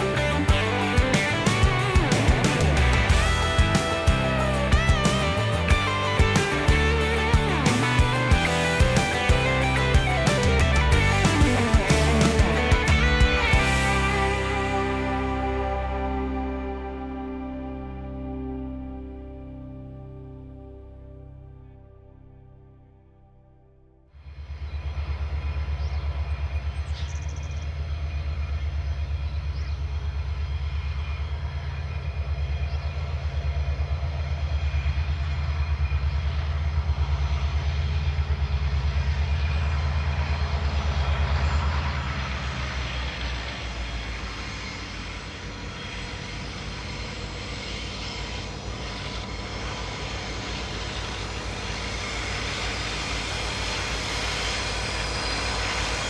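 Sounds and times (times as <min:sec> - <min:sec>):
train rumbling: 0:00.0 - 0:18.0, 0:24.4 - 0:56.0
train locomotive droning: 0:00.0 - 0:22.8, 0:24.2 - 0:56.0.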